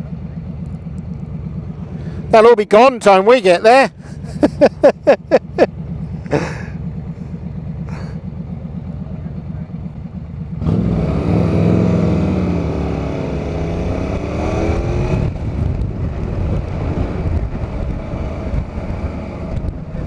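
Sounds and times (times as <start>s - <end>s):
motorcycle engine accelerating: 0.0s - 20.0s
road noise: 0.0s - 20.0s.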